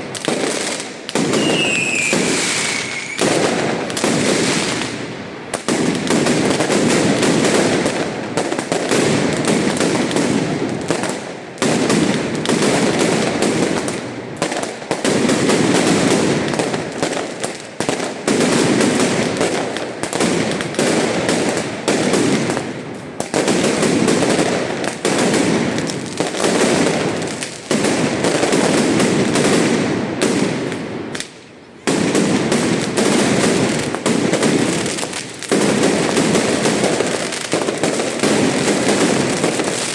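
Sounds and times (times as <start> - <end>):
firework bangs and crackling: 0.0 - 39.9.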